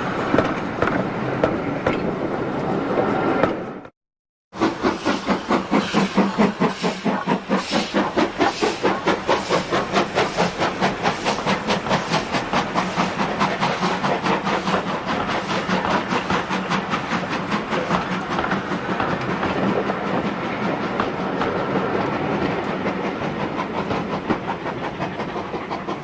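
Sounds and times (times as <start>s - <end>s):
steam locomotive exhaust beating: 4.5s - 26.0s.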